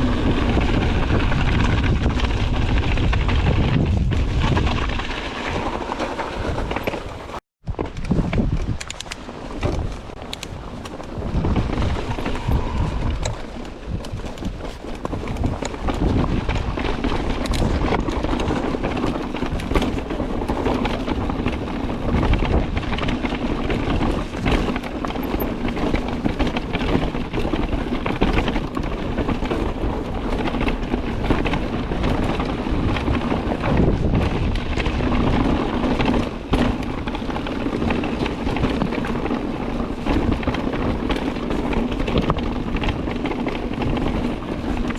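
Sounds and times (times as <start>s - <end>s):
bike clattering over stones: 0.0s - 44.9s
bike tyres rumbling: 0.0s - 44.9s
wind buffeting microphone: 0.0s - 44.9s.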